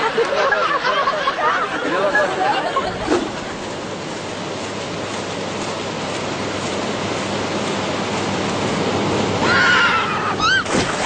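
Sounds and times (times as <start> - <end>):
steady rushing noise: 0.0 - 9.6.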